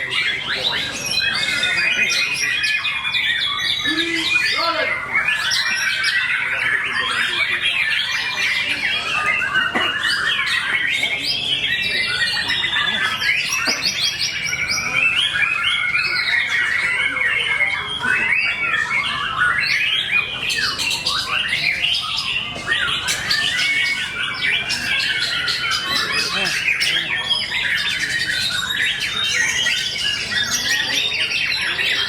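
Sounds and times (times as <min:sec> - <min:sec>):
birds singing with whistles and trills: 0:00.0 - 0:32.0.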